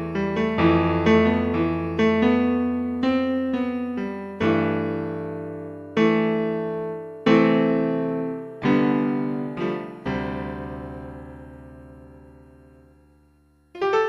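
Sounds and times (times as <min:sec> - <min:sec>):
piano music: 0:00.0 - 0:13.0, 0:13.7 - 0:14.0.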